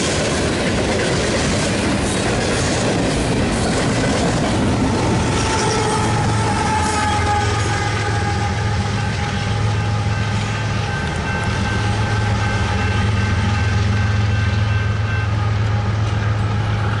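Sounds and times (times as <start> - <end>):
diesel locomotive engine drone: 0.0 - 17.0
freight train rumble: 0.0 - 17.0.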